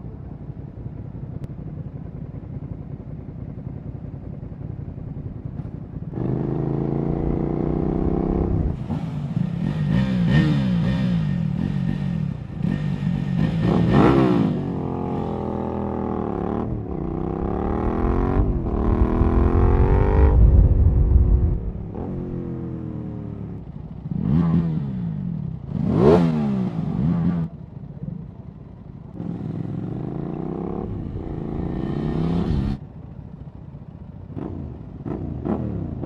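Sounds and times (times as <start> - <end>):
another engine: 0.0 - 36.0
motorcycle engine accelerating: 4.8 - 36.0.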